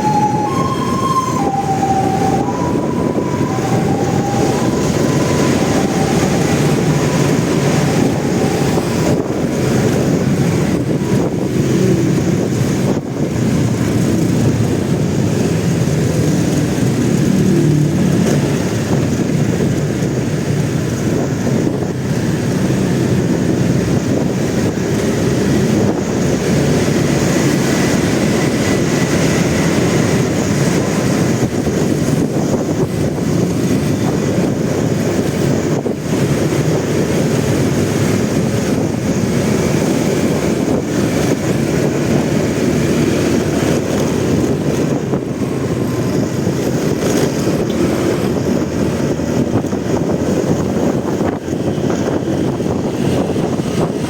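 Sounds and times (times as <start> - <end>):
motorcycle running: 0.0 - 54.0
wind rumble on microphone: 0.0 - 54.0.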